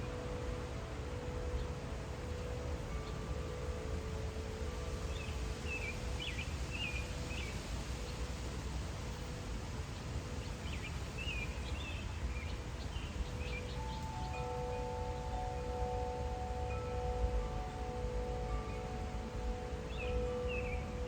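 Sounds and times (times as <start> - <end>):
faint chime tone: 0.0 - 9.6, 12.9 - 21.0
outdoor background hiss: 0.0 - 21.0
songbird chirping: 0.0 - 21.0.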